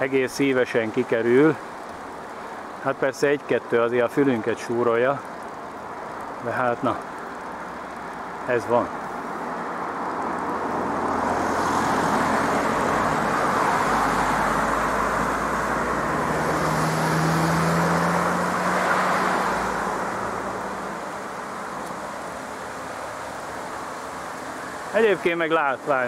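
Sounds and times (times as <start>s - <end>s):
cars passing by: 0.0s - 26.0s.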